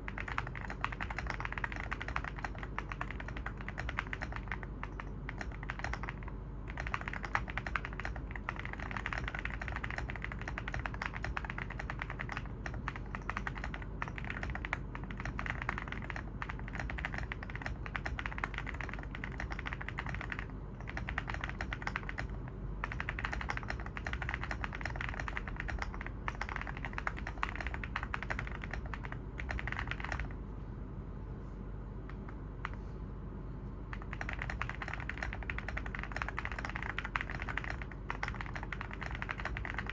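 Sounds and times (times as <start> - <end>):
mechanical keyboard typing: 0.0 - 30.4, 33.9 - 39.9.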